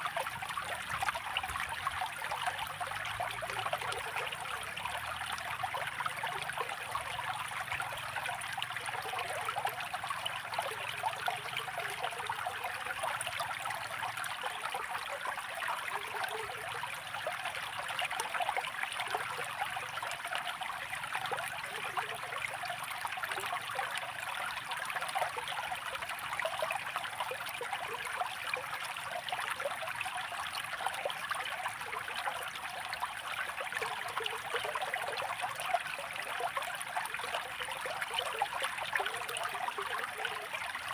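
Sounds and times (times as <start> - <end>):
stream water trickling and splashing: 0.0 - 40.9.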